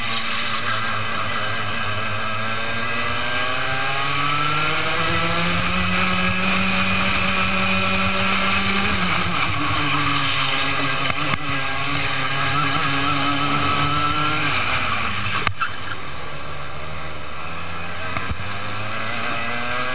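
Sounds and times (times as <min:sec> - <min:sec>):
kart engine at full throttle: 0:00.0 - 0:19.9.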